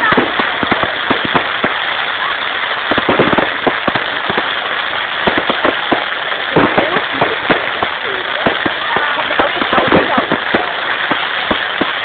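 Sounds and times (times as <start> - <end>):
fireworks banging and crackling: 0.0 - 12.0
steady hiss: 0.0 - 12.0.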